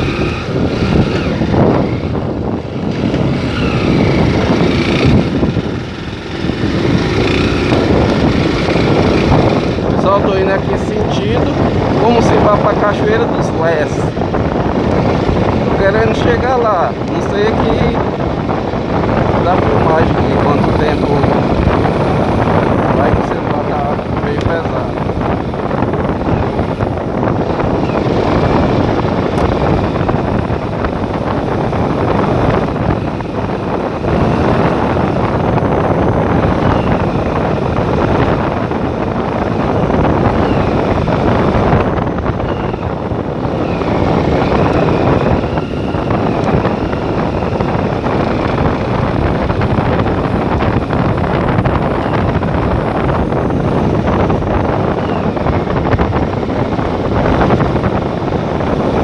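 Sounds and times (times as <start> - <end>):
vehicle engine and road noise: 0.0 - 59.0
wind buffeting microphone: 0.0 - 59.0.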